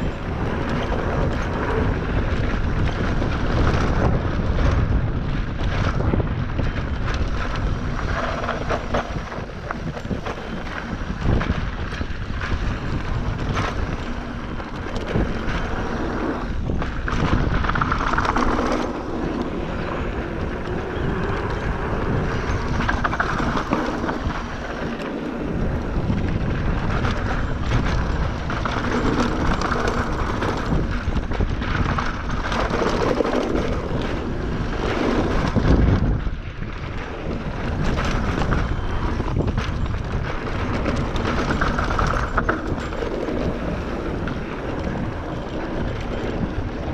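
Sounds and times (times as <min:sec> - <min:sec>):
mountain bike rumbling and rattling: 0:00.0 - 0:46.9
wind rushing over microphone: 0:00.0 - 0:46.9.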